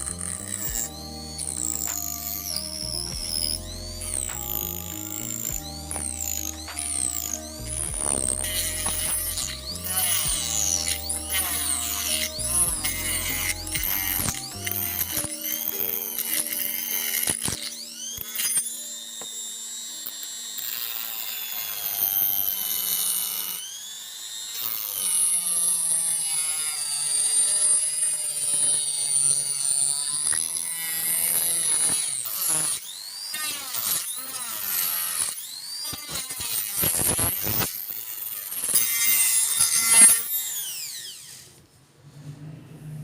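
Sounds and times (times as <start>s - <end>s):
angle grinder whining and cutting: 0.0s - 41.7s.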